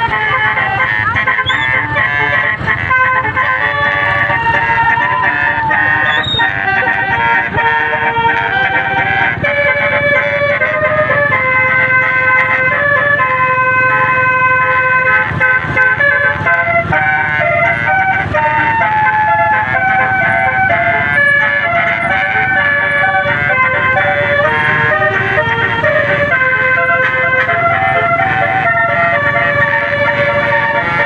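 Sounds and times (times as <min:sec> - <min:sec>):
low engine rumble: 0:00.0 - 0:31.0
musical bus horn playing a tune: 0:00.0 - 0:31.0.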